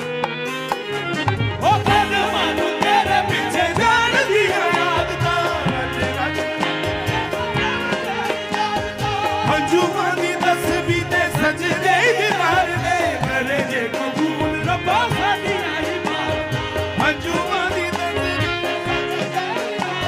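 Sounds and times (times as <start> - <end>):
steady percussion beat: 0.0 - 20.0
men singing: 1.6 - 20.0.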